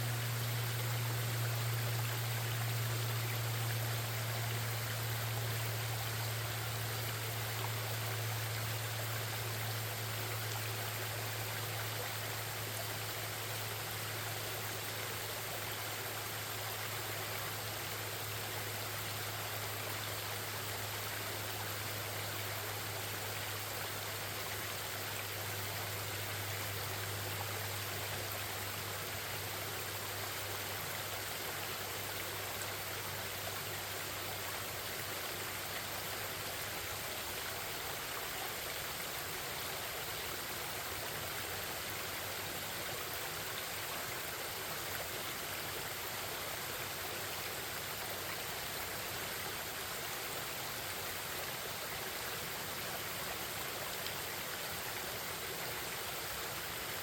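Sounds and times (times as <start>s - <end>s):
low steady hum: 0.0s - 57.0s
stream babbling over rocks: 0.0s - 57.0s.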